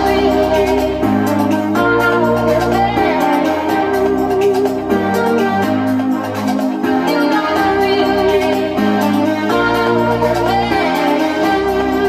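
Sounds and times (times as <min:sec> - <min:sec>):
electronic dance music on speaker: 0:00.0 - 0:12.0.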